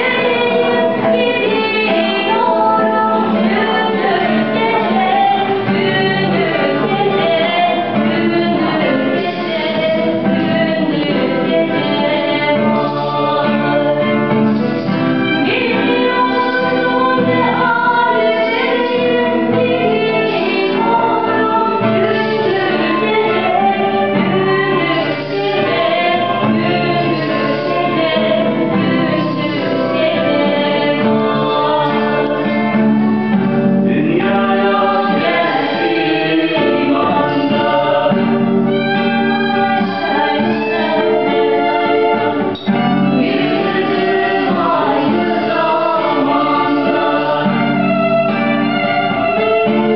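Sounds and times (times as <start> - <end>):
acoustic guitar: 0.0 - 49.9
violin melody: 0.0 - 49.9
voices singing a folk song: 0.0 - 49.9.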